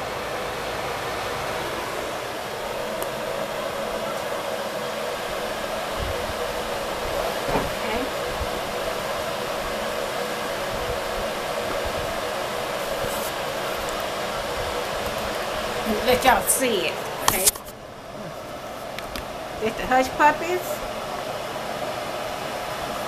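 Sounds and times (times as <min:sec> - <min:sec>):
fan whooshing hum: 0:00.0 - 0:23.0.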